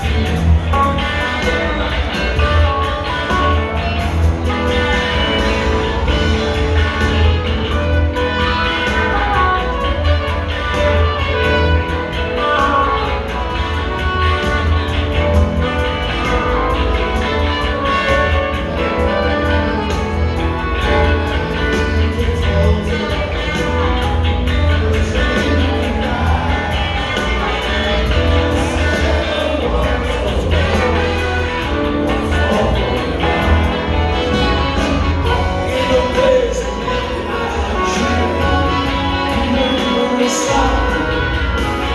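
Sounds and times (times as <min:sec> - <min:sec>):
heavy bass line: 0:00.0 - 0:41.9
live rock band playing: 0:00.0 - 0:41.9
steady drum beat: 0:00.0 - 0:41.9.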